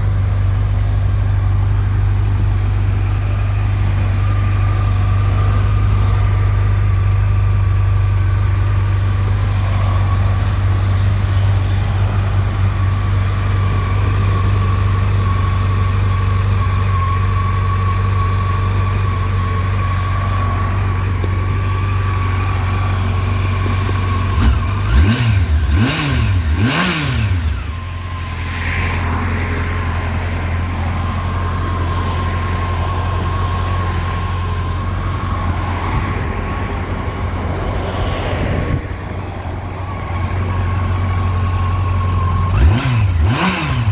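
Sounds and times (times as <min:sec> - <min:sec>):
motorcycle engine idling: 0:00.0 - 0:37.5, 0:38.9 - 0:43.9.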